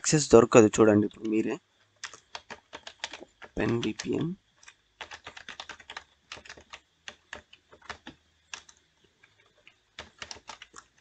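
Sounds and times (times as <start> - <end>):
computer keyboard typing: 1.0 - 11.0.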